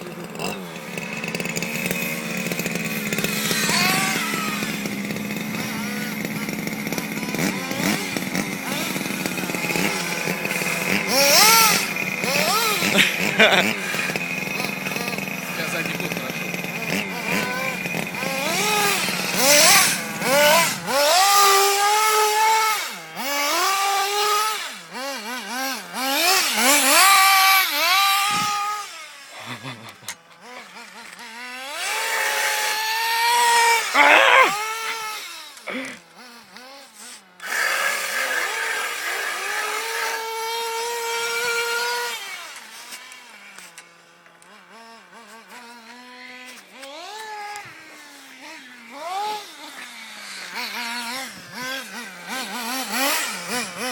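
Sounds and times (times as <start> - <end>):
rc car motor whining: 0.0 - 53.9.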